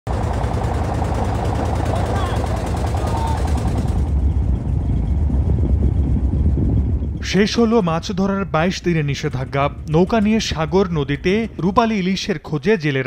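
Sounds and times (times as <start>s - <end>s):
boat engine chugging: 0.1s - 13.0s
low engine rumble: 0.1s - 13.0s.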